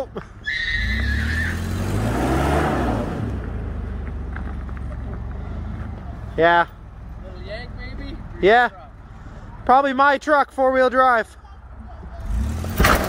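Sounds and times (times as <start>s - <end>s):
vehicle engine straining: 0.0s - 13.0s.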